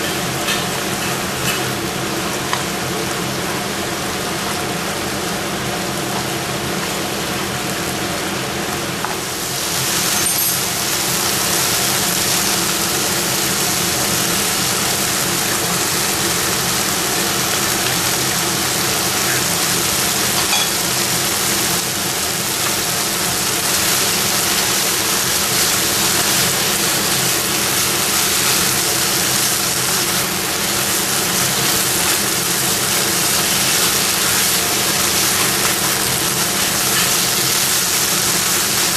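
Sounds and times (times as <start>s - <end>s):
chicken sizzling in a pan: 0.0s - 38.9s.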